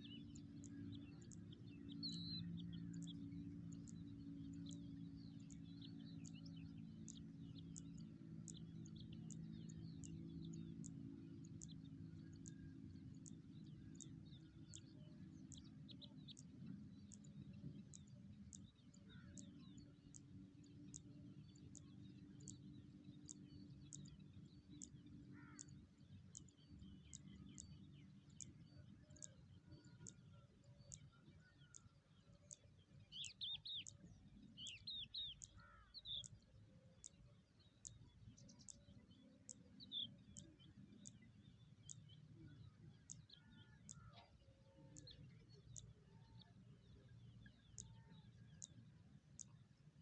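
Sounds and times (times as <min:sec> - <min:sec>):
faint bird chirps: 0:00.0 - 0:50.0.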